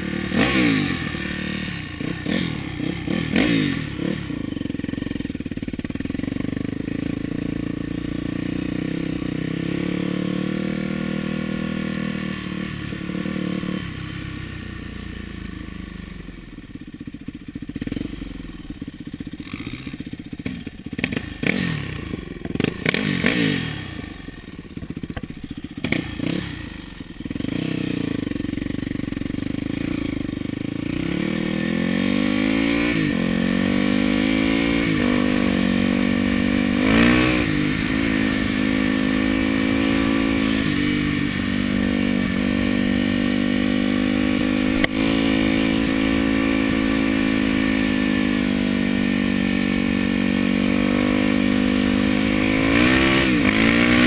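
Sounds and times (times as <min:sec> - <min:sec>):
dirt bike engine revving: 0:00.0 - 0:15.2, 0:17.8 - 0:54.0.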